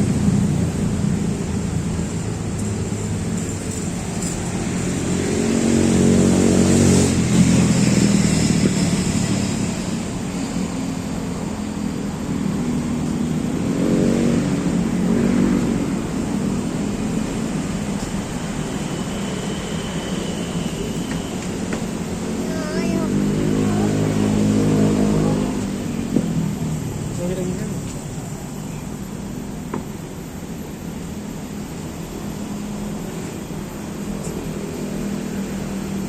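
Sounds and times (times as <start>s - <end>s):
steady traffic hum: 0.0s - 36.0s
vehicles passing: 0.0s - 36.0s.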